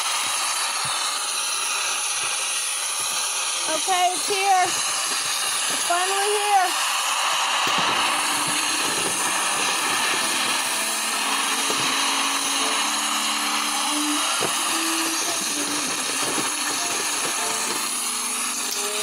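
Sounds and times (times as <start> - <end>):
small electric motor whirring: 0.0 - 19.0.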